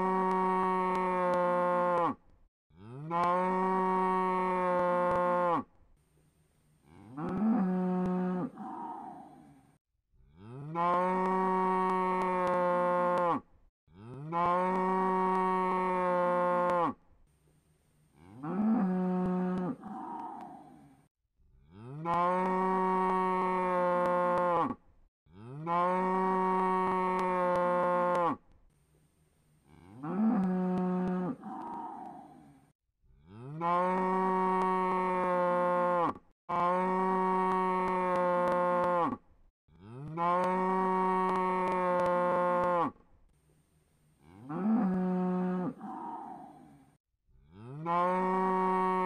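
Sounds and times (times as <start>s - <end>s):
cow mooing: 0.0s - 5.7s, 6.8s - 9.6s, 10.3s - 13.4s, 14.0s - 17.0s, 18.2s - 20.9s, 21.7s - 28.4s, 29.7s - 32.6s, 33.2s - 39.2s, 39.8s - 43.0s, 44.2s - 46.8s, 47.5s - 49.0s.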